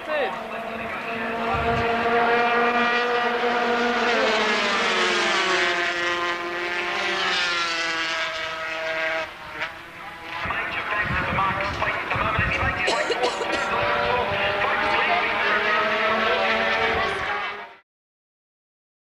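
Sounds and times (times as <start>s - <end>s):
racing motorcycles passing: 0.0s - 17.8s.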